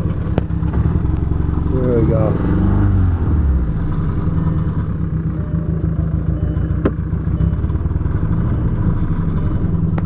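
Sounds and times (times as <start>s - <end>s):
car engine idling unevenly: 0.0s - 2.4s, 3.1s - 10.0s.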